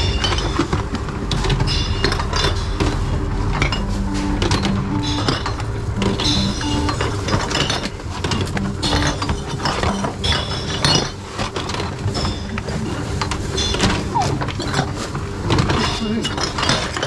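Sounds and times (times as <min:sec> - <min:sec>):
machine mechanism whirring and clattering: 0:00.0 - 0:03.9, 0:04.5 - 0:17.0
glass bottles clinking: 0:00.0 - 0:17.0.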